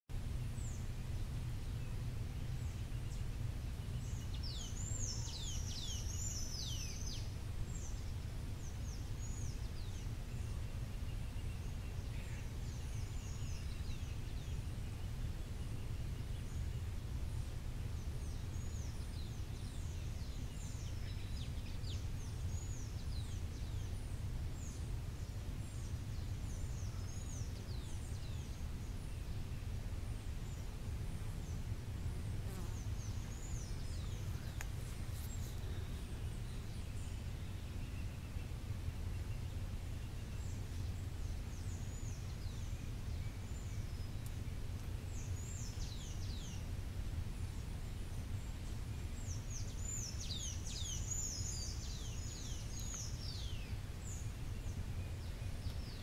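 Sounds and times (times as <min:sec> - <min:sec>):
low background rumble: 0:00.1 - 0:56.0.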